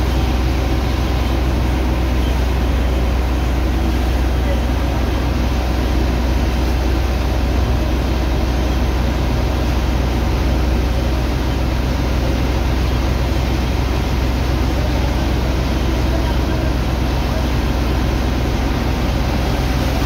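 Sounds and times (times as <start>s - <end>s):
dredger pump engine humming: 0.0s - 20.0s.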